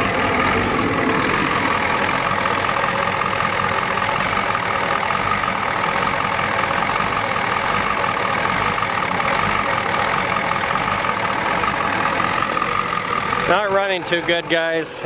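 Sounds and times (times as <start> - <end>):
diesel engine idling rough: 0.0 - 15.0
steady high whine: 0.0 - 15.0.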